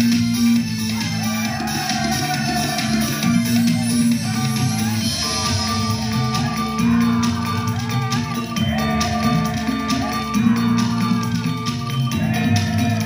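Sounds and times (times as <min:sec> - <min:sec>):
band music over loudspeakers: 0:00.0 - 0:13.0.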